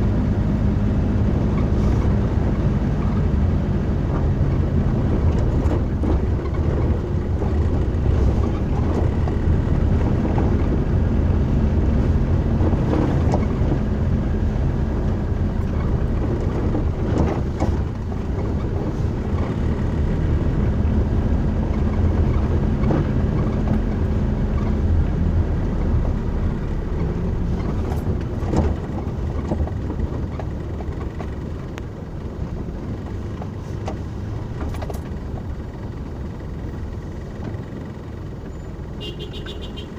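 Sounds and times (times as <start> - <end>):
vehicle rumbling from inside: 0.0 - 39.9.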